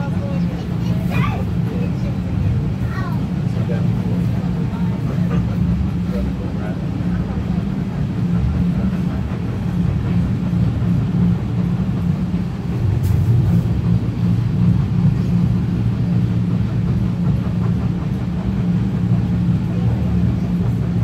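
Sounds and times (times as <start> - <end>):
train carriage rumbling on rails: 0.0 - 21.0.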